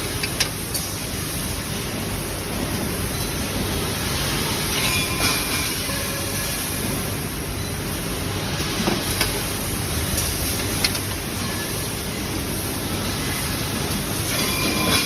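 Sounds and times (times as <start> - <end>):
welding machinery running: 0.0 - 15.0.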